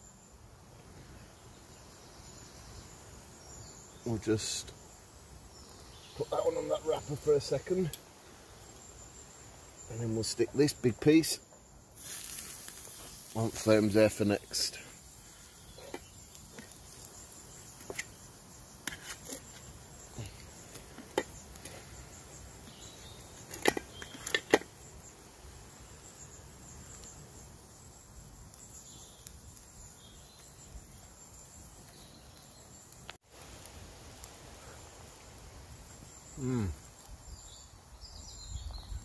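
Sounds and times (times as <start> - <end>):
woodland background: 0.0 - 39.0.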